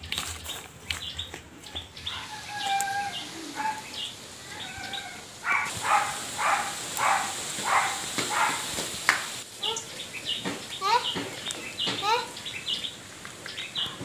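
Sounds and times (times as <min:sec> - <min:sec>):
harsh repeated bird calls: 0:00.0 - 0:14.0.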